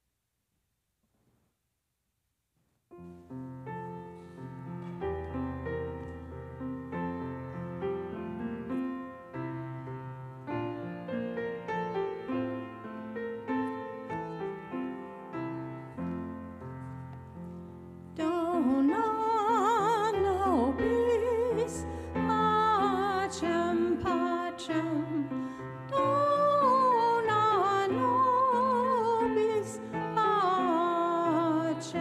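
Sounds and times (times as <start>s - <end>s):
slow piano chords: 3.0s - 32.0s.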